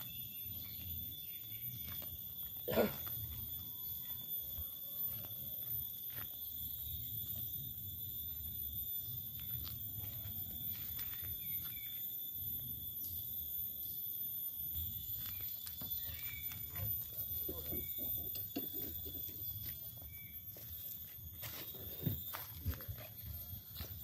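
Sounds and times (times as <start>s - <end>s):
high-pitched whine: 0.0s - 24.0s.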